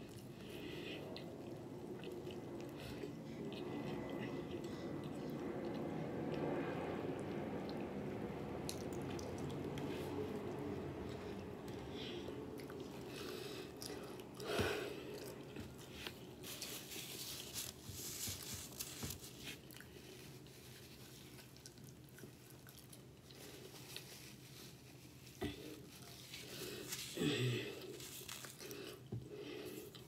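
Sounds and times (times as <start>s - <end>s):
chewing with crisp crunches: 0.0s - 6.6s, 7.2s - 30.0s.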